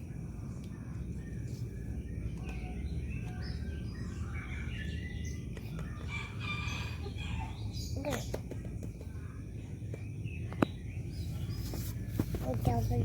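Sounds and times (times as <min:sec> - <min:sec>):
faint high bird chirps: 0:00.0 - 0:13.0.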